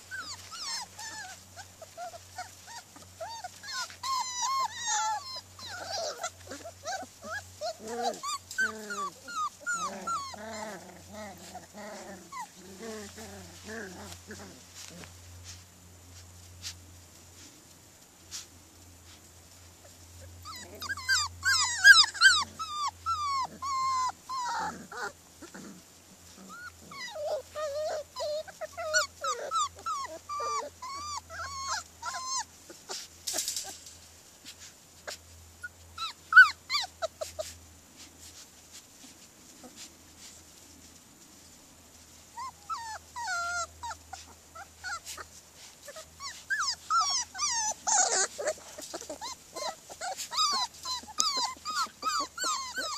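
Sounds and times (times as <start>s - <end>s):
puppies whining and yipping: 0.0s - 16.8s, 19.8s - 40.6s, 42.2s - 52.9s.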